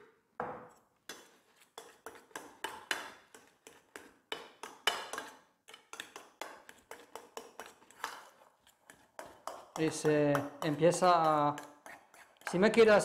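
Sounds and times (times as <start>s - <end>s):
dough mixing in metal bowl: 1.1s - 13.0s.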